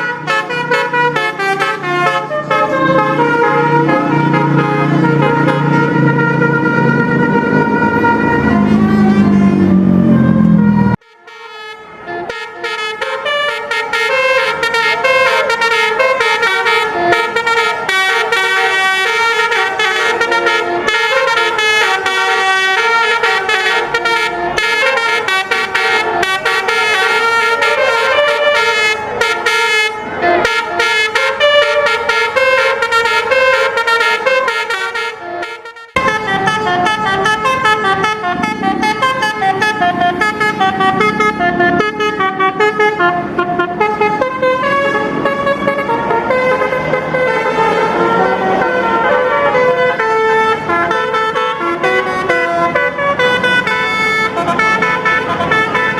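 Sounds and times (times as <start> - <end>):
musical air horn tune: 0.0 - 55.9.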